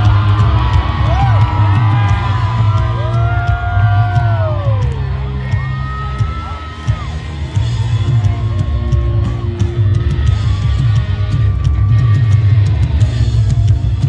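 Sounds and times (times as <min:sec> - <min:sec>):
crowd shouting: 0:00.0 - 0:13.5
country-rock band playing: 0:00.0 - 0:14.0.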